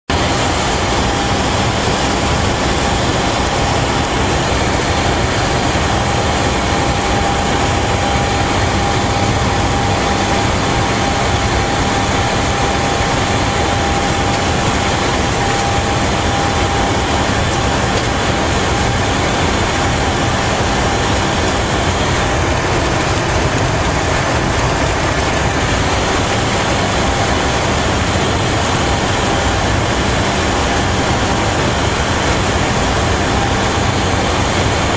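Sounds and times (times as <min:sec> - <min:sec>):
electric locomotive running noise: 0:00.1 - 0:34.9
low hum: 0:00.1 - 0:34.9
thin steady whine: 0:00.1 - 0:34.9.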